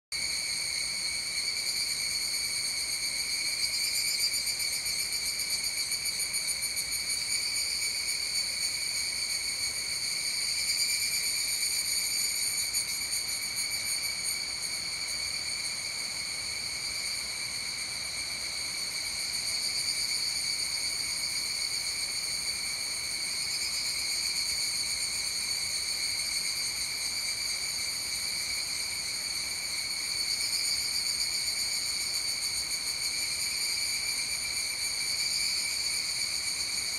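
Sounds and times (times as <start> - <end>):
cicadas chorus: 0.1 - 36.9.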